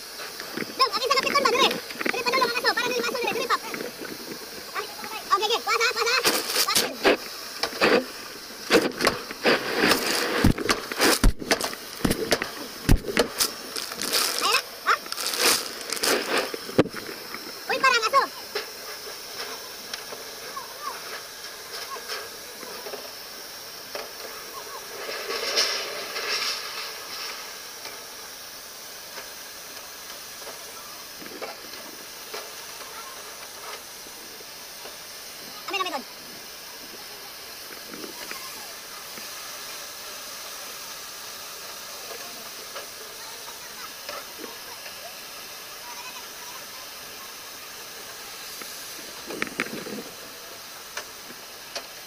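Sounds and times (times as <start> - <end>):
water spraying on fire hissing: 0.0 - 52.0.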